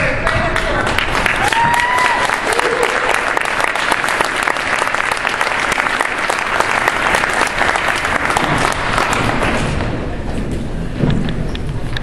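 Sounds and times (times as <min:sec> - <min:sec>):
audience applauding: 0:00.2 - 0:09.8.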